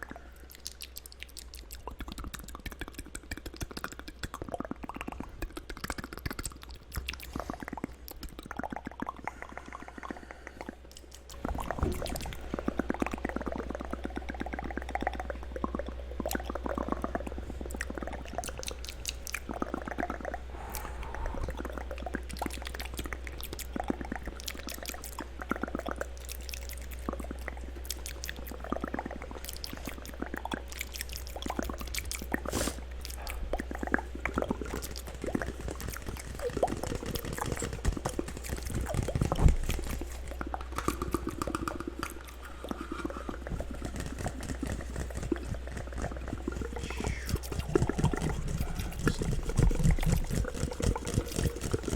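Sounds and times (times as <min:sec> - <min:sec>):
steady low hum: 0:00.0 - 0:51.9
wet mouth clicks and smacks: 0:00.0 - 0:51.9.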